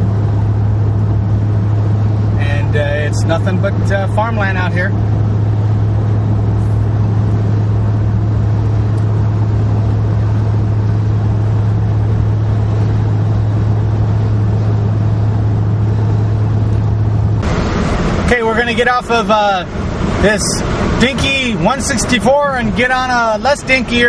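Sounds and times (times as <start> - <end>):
car cabin engine hum: 0.0 - 24.0
road noise rushing: 0.0 - 24.0.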